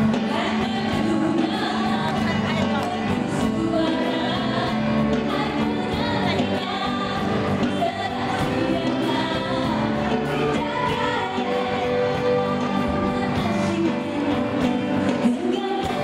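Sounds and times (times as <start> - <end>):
drums: 0.0 - 16.0
voices singing together: 0.0 - 16.0.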